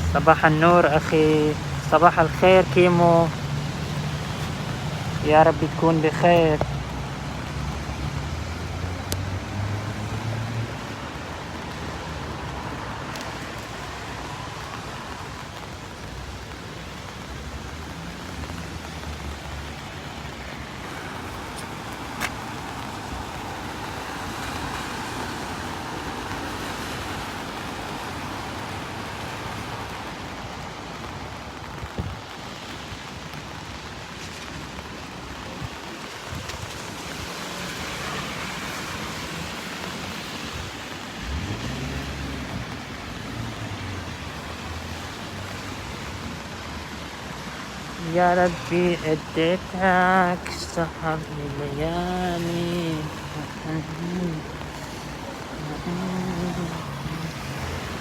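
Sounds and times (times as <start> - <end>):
rain hiss: 0.0 - 58.0
road traffic: 0.0 - 58.0.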